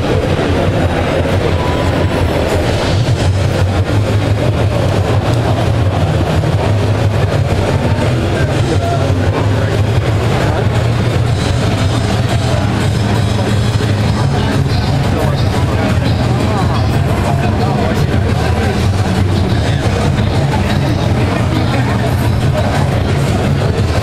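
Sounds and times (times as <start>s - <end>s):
crowded hall din: 0.0s - 24.0s.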